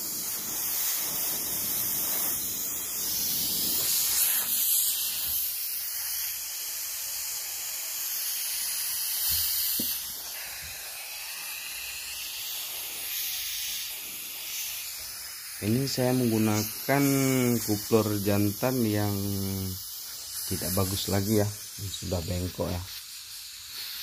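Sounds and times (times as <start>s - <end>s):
compressed air hissing: 0.0s - 24.0s.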